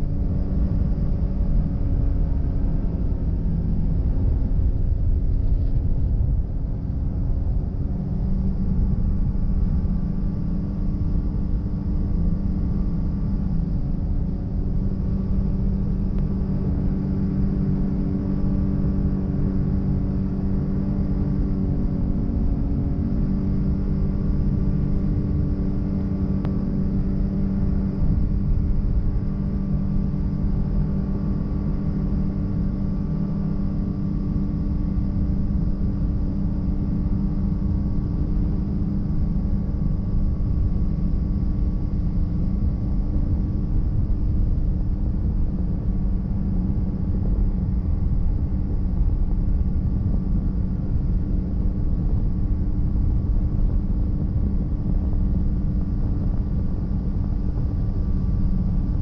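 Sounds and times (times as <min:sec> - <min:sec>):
vehicle engine cruising: 0:00.0 - 0:59.0.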